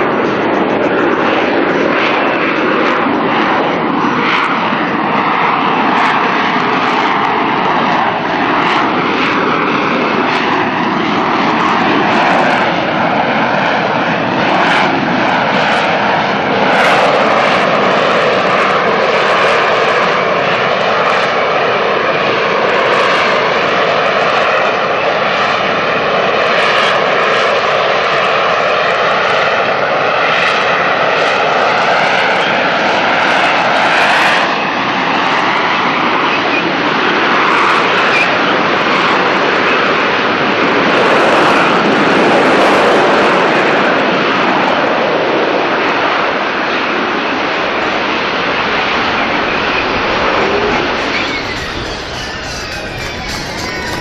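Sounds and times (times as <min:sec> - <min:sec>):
jet engine roar with whine: 0:00.0 - 0:54.0.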